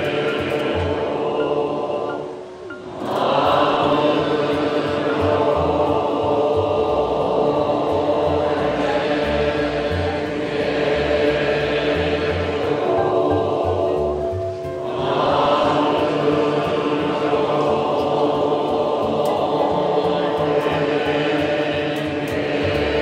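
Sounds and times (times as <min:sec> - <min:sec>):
priests chanting in unison: 0:00.0 - 0:23.0.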